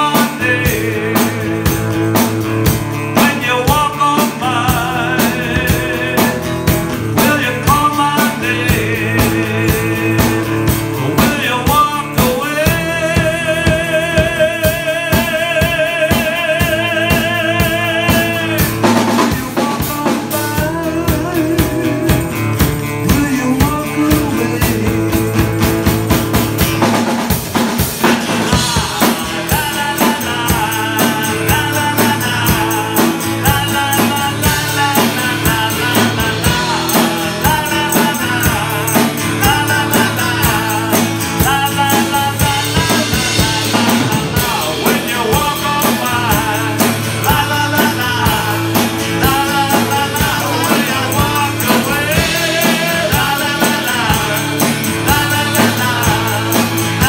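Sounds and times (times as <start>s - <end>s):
acoustic-electric guitar strummed: 0.0s - 57.0s
drum kit beat: 0.0s - 57.0s
man singing: 0.0s - 57.0s.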